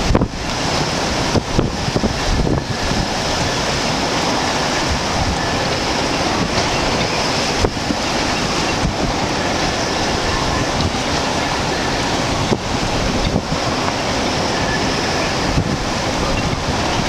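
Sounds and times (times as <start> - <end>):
rough churning waves: 0.0 - 17.0
strong wind buffeting microphone: 0.0 - 17.0.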